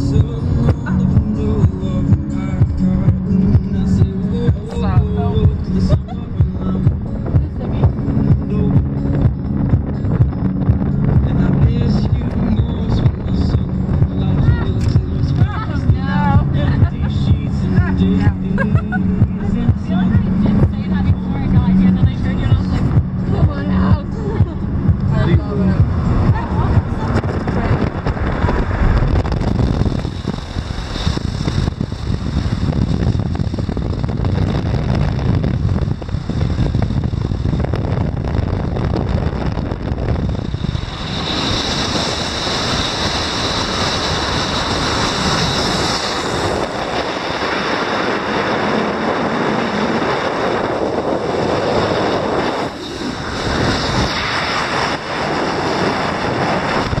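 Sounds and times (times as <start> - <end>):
car road noise: 0.0 - 57.0
wind buffeting a microphone: 0.0 - 57.0.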